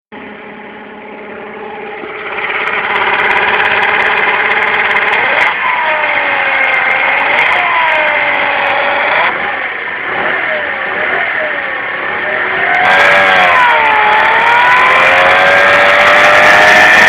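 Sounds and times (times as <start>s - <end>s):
scooter engine idling and revving: 0.2s - 17.0s.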